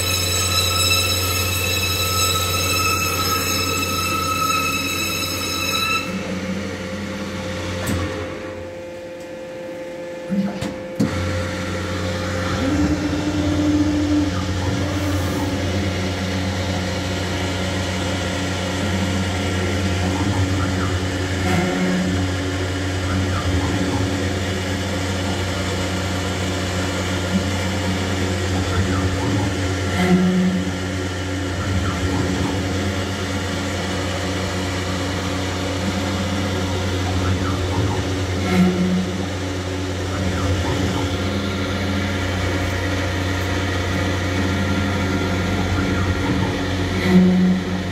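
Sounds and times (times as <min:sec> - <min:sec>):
drilling machine humming: 0:00.0 - 0:47.9.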